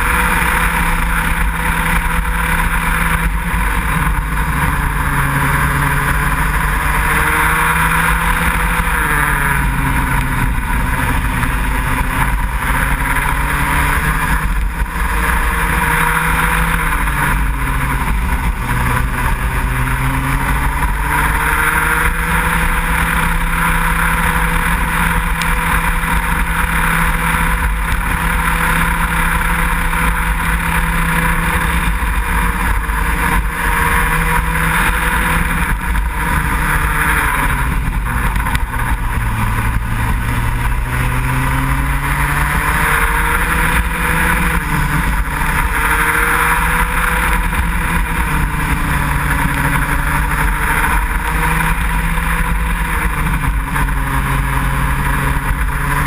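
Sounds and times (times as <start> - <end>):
kart engine running hard: 0.0 - 56.0.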